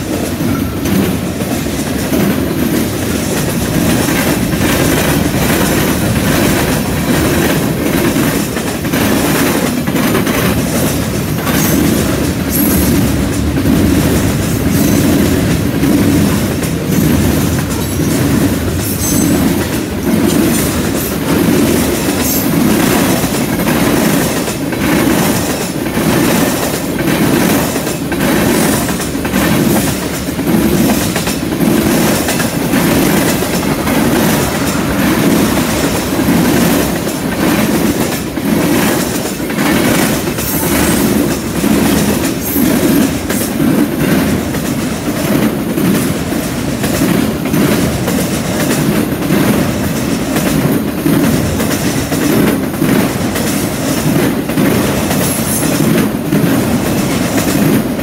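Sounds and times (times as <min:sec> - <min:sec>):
freight train rumbling past: 0:00.0 - 0:58.0
train wheel clicks: 0:00.0 - 0:58.0.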